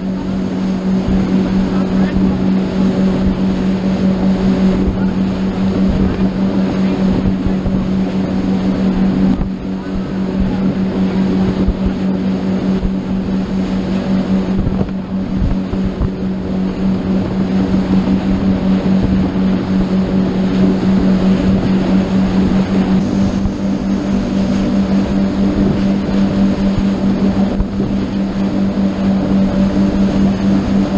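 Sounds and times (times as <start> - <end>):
motorboat engine droning: 0.0 - 30.9
wind buffeting microphone: 0.0 - 30.9.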